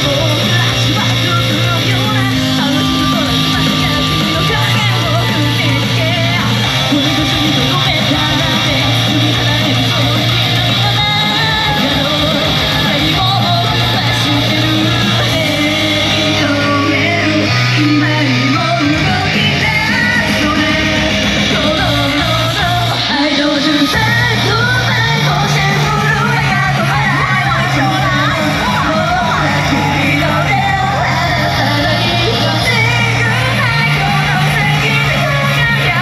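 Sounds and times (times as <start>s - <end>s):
electric guitar: 0.0s - 36.0s
person singing: 0.0s - 36.0s
steady bass beat: 0.0s - 36.0s.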